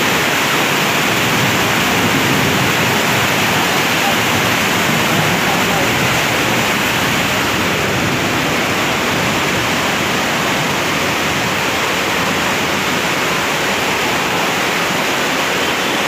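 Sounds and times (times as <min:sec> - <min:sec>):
floodwater rushing: 0:00.0 - 0:16.0
heavy rain: 0:00.0 - 0:16.0.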